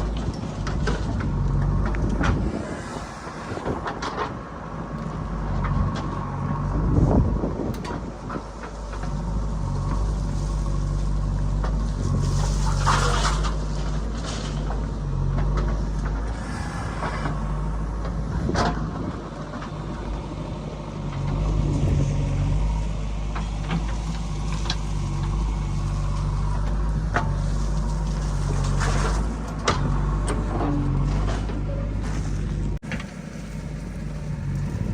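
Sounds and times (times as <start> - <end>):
heavy diesel engine running: 0.0 - 34.9
machinery clanks and knocks: 3.6 - 33.1.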